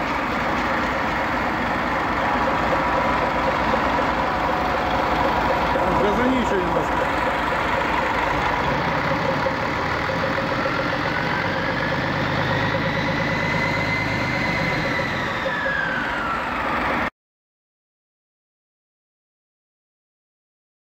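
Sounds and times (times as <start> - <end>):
diesel engine running: 0.0 - 17.1.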